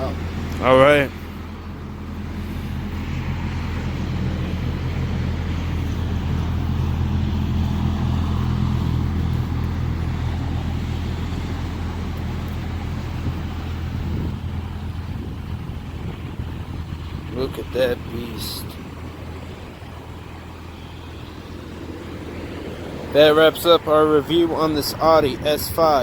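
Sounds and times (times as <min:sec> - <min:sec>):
car engine humming: 0:00.0 - 0:26.0.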